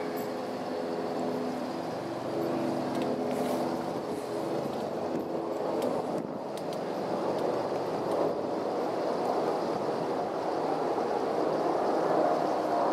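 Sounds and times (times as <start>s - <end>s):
hum of passing vehicles: 0.0s - 12.9s.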